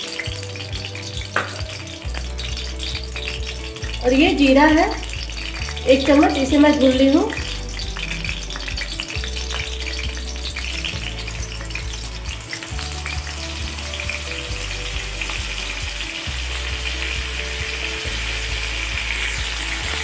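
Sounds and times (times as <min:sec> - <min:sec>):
seeds sizzling in hot oil: 0:00.0 - 0:20.0.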